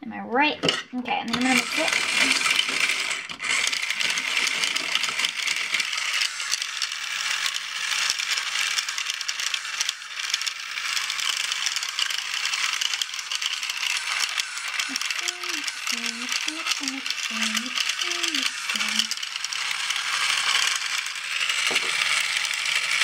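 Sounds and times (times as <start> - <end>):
utensil rattling in plastic cup: 1.3 - 23.0.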